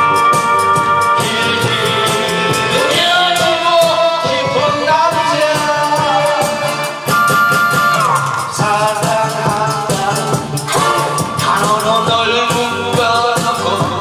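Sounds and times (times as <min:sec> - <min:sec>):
backing music with steady beat: 0:00.0 - 0:14.0
man singing into a microphone: 0:01.1 - 0:06.9, 0:08.0 - 0:14.0.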